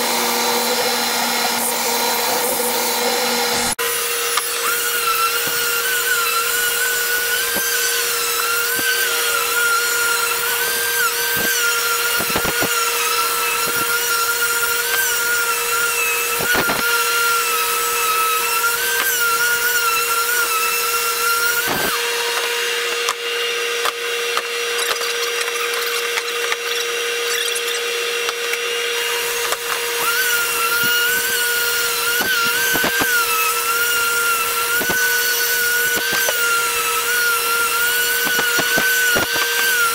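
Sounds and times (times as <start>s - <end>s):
orbital sander sanding wood: 0.0s - 39.9s.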